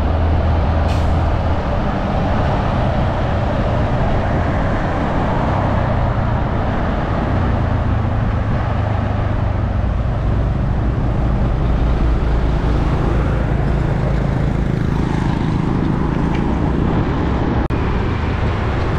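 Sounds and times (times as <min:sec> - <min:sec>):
trucks driving past: 0:00.0 - 0:18.9
tyre and road noise: 0:00.0 - 0:18.9.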